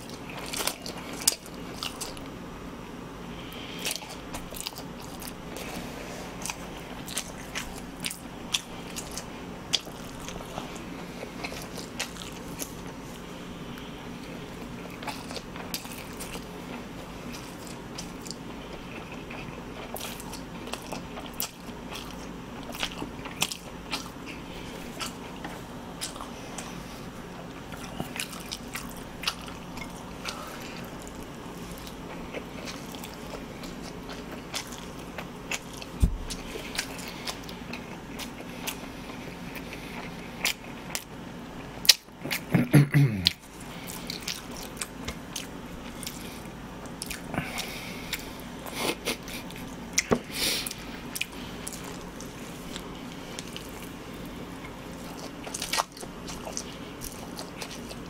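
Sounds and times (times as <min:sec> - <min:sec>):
chewing noodles: 0:00.0 - 0:02.4, 0:03.4 - 0:42.6, 0:43.2 - 0:58.0.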